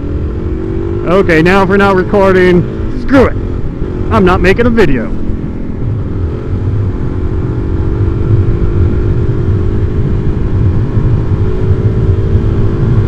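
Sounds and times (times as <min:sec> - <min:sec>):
low wind rumble: 0:00.0 - 0:13.0
motorcycle engine running: 0:00.0 - 0:13.0.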